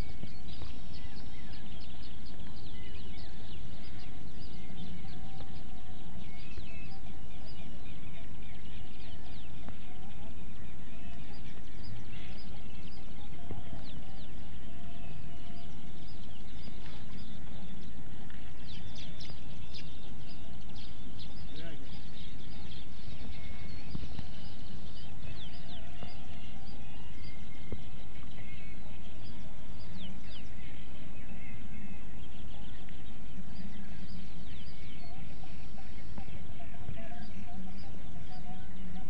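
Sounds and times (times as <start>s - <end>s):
low background noise: 0.0s - 39.0s
small birds chirping: 0.0s - 39.0s.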